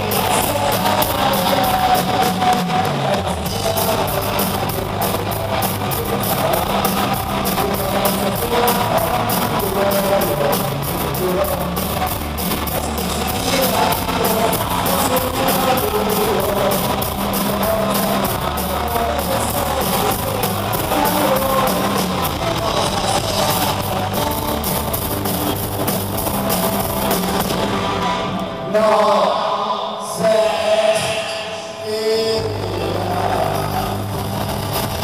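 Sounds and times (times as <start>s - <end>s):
live rock band playing: 0.0s - 29.3s, 30.1s - 35.0s.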